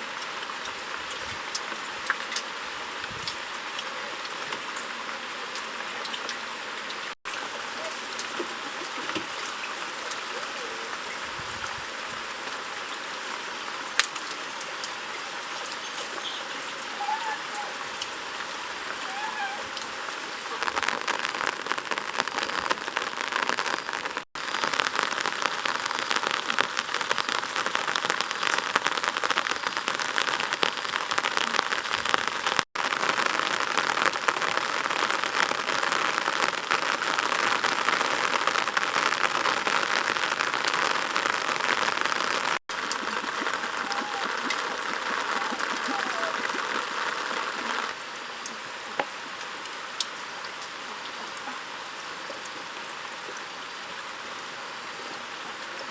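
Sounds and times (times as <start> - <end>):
heavy rain patter: 0.0 - 55.9.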